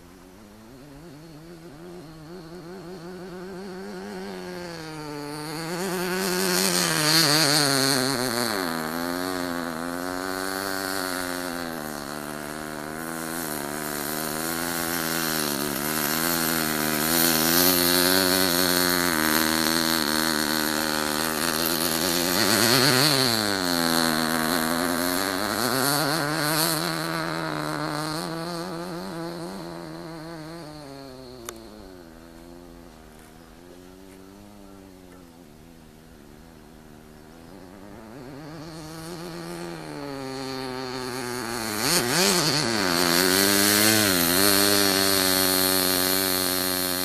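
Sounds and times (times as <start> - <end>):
model car engine revving: 0.0 - 47.0.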